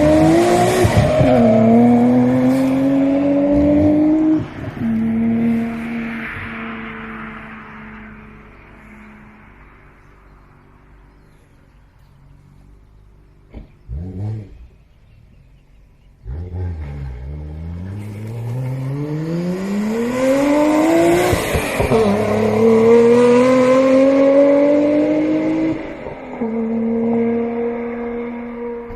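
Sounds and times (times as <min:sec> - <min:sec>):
car exhaust revving and accelerating: 0:00.0 - 0:11.5, 0:12.5 - 0:28.9.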